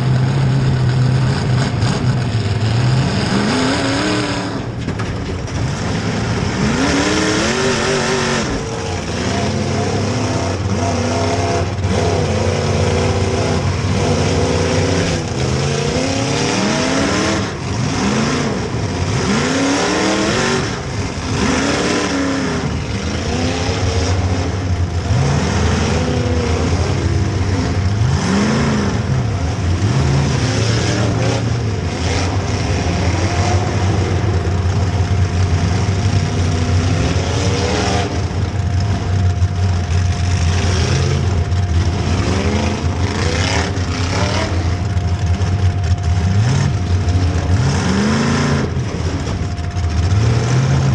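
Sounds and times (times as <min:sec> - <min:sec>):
car engines revving hard: 0:00.0 - 0:50.9
low engine drone: 0:00.0 - 0:50.9.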